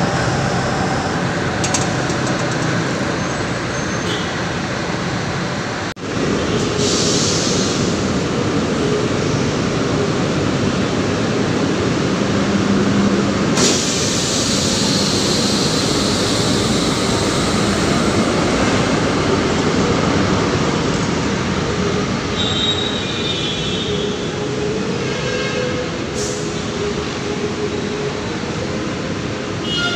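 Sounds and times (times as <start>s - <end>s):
light rail train rumbling: 0.0s - 29.9s.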